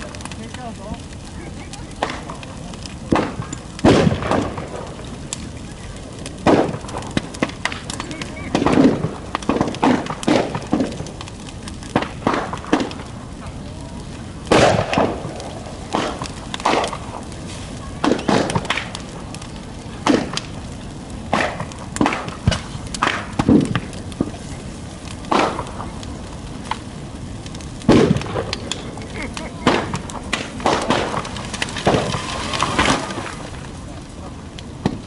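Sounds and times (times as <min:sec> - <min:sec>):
bonfire burning: 0:00.0 - 0:35.0
fire popping and cracking: 0:00.0 - 0:35.0.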